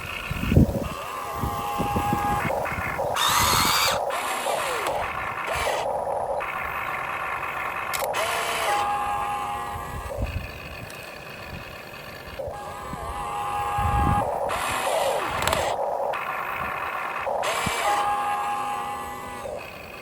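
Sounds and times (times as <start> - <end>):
toy excavator motors whining: 0.0 - 20.0.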